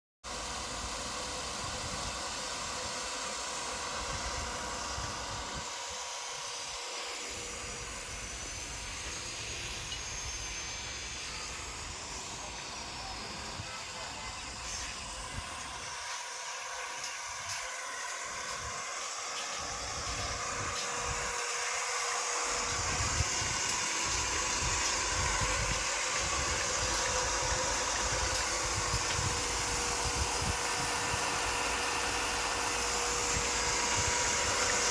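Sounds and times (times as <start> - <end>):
pump motor hum: 0.2 - 34.9.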